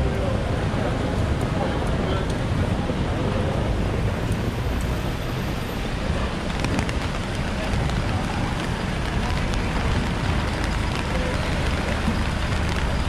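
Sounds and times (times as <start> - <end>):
low rumble of traffic: 0.0 - 13.0
rain hissing on wet pavement: 0.0 - 13.0.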